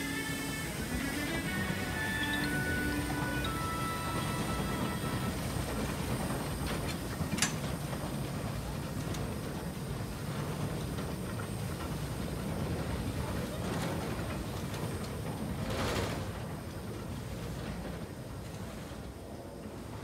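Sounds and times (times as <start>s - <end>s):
steam locomotive rumble and hiss: 0.0s - 20.0s.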